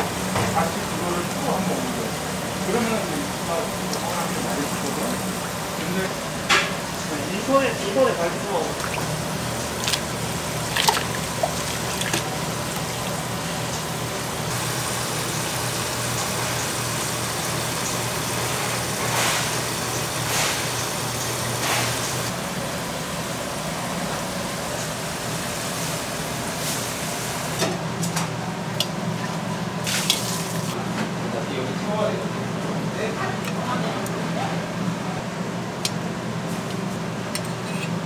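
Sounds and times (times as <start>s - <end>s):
kitchen machinery humming: 0.0s - 38.0s.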